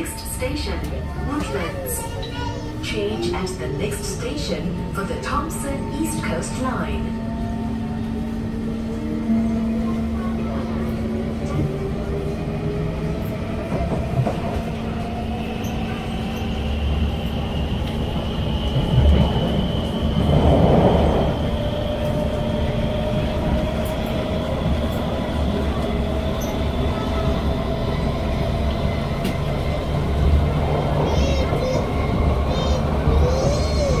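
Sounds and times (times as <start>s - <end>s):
train wheel and rail rumble: 0.0s - 34.0s.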